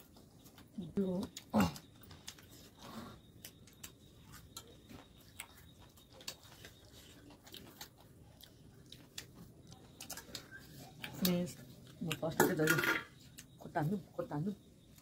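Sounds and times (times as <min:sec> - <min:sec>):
chewing clicks and smacks: 0:00.1 - 0:12.4.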